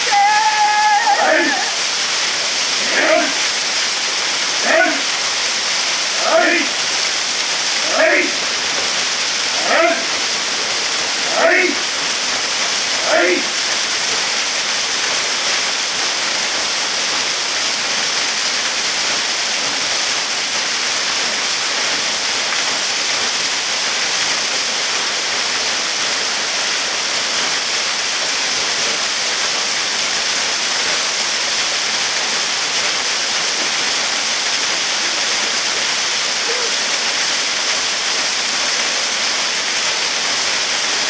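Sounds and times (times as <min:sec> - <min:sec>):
waterfall pouring onto rock: 0:00.0 - 0:41.0.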